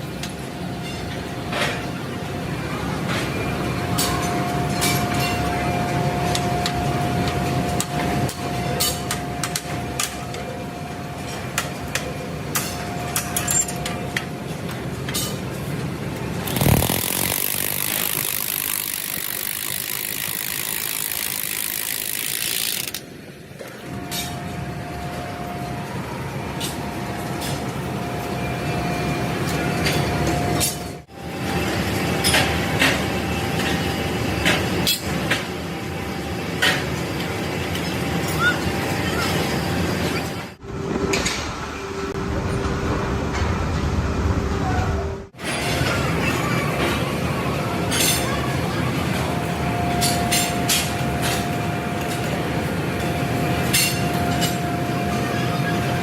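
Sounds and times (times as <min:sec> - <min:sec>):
factory machinery humming: 0:00.0 - 0:56.0.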